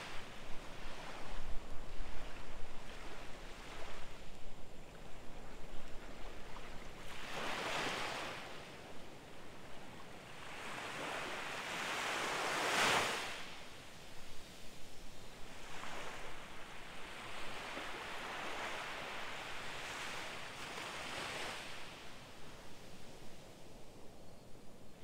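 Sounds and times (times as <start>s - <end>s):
small waves washing up beach: 0.0s - 23.5s.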